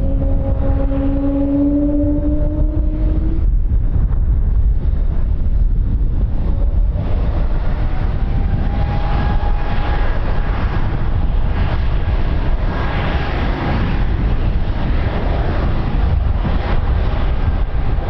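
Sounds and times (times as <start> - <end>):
aircraft engine whine: 0.0 - 18.0
wind rumble on microphone: 0.0 - 18.0.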